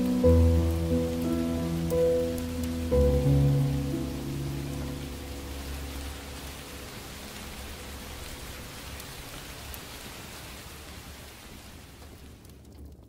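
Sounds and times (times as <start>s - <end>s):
sharp raindrop ticks: 0.0s - 13.0s
steady rain hiss: 0.0s - 13.0s.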